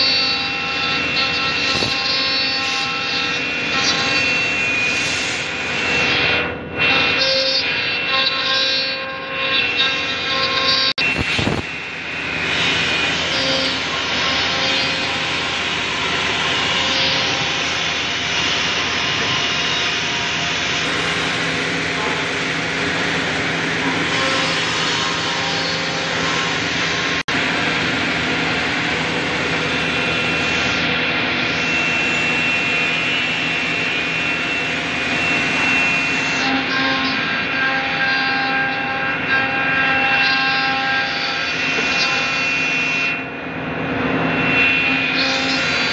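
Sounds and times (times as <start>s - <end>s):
router spindle whining: 0.0s - 8.5s, 9.2s - 43.2s, 44.4s - 45.9s.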